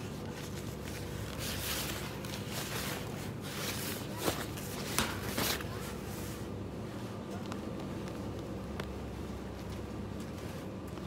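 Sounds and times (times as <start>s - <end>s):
low hum with faint tone: 0.0s - 11.0s.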